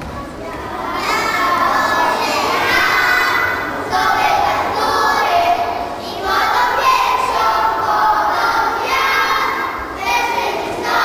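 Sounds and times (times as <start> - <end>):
children singing: 0.4 - 11.0.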